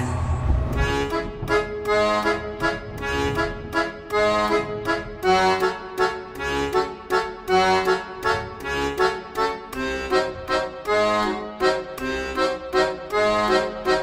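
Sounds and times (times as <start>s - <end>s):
reedy melody over steady beat: 0.0s - 14.0s.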